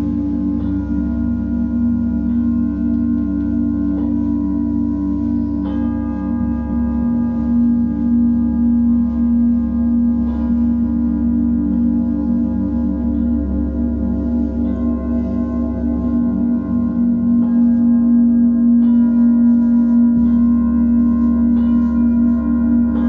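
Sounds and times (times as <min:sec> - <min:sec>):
low hum: 0:00.0 - 0:23.0
singing bowl struck: 0:00.0 - 0:23.0
singing bowls ringing: 0:00.0 - 0:23.0.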